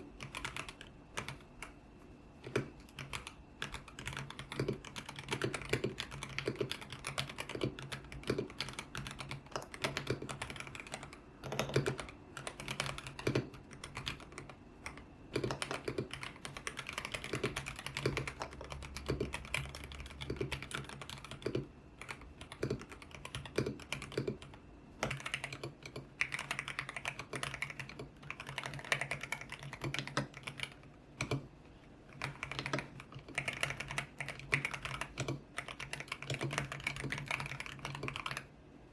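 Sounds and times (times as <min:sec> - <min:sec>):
mechanical keyboard typing: 0:00.0 - 0:01.8, 0:02.4 - 0:38.5.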